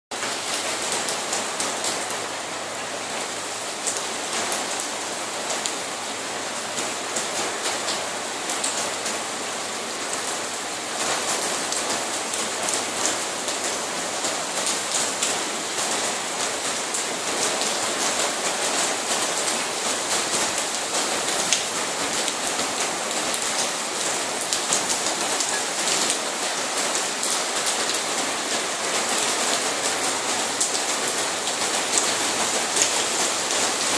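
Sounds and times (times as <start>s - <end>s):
rain falling steadily: 0.1s - 33.9s.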